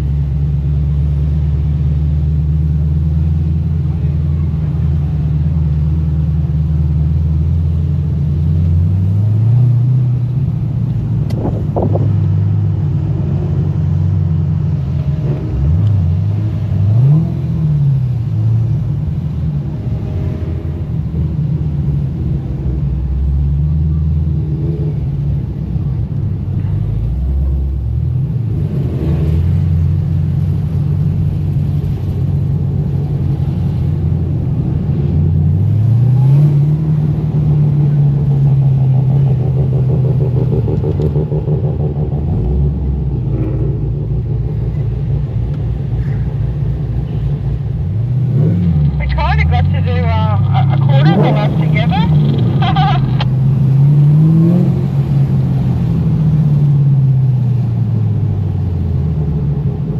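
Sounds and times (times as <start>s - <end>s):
car engines cruising: 0.0s - 59.9s
engine revs: 0.0s - 59.9s.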